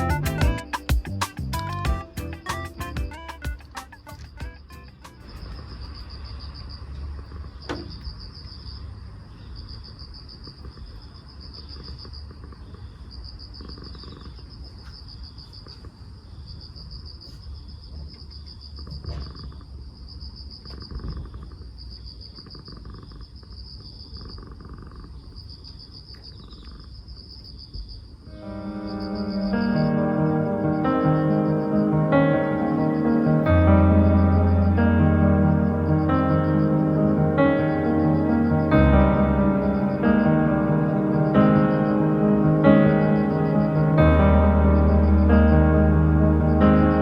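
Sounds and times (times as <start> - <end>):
insect chirping in trills: 4.0 - 47.0.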